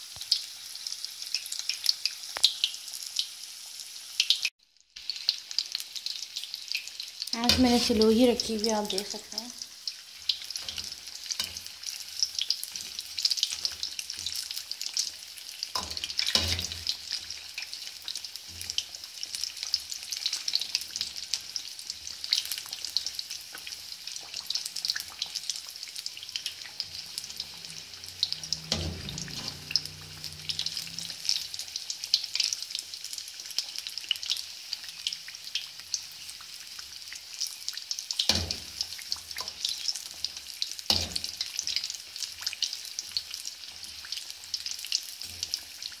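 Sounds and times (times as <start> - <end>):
fish deep-frying in oil: 0.0 - 46.0.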